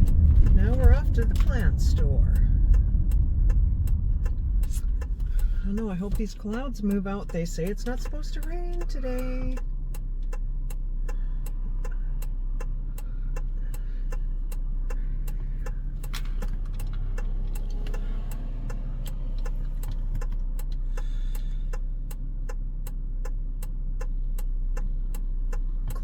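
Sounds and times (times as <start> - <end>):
car engine and road rumble: 0.0 - 26.0
turn signal clicking: 0.0 - 26.0.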